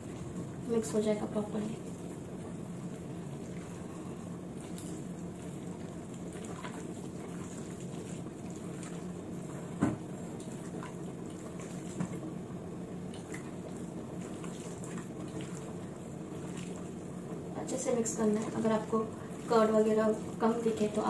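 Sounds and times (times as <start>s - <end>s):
hand squishing wet marinade: 2.8s - 12.4s, 13.0s - 21.0s.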